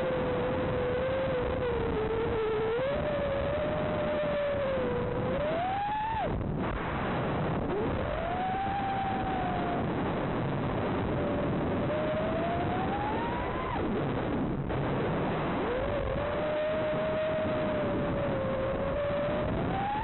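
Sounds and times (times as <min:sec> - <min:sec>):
quadcopter motors whining: 0:00.0 - 0:06.4, 0:07.6 - 0:14.1, 0:15.3 - 0:20.0.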